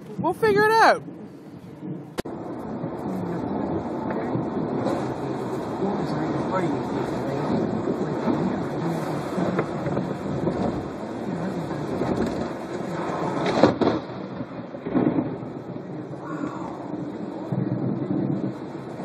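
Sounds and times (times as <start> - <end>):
rain: 0.0 - 19.0
tyres rumbling on wet road: 0.0 - 19.0.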